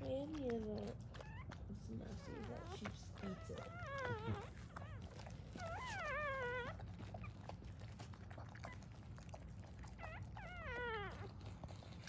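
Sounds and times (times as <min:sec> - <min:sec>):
puppy crying: 0:01.1 - 0:12.0.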